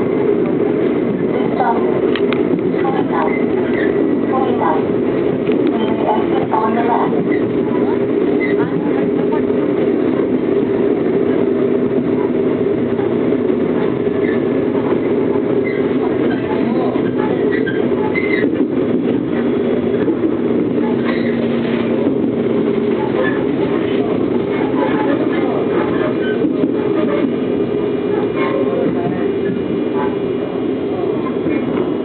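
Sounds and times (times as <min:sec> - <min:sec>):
subway train rumbling: 0:00.0 - 0:32.0.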